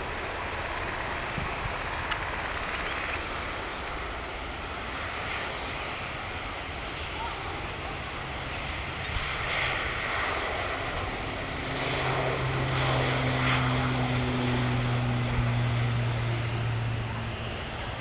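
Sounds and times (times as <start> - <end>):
aircraft engine noise: 0.0 - 18.0
propeller drone: 0.0 - 18.0.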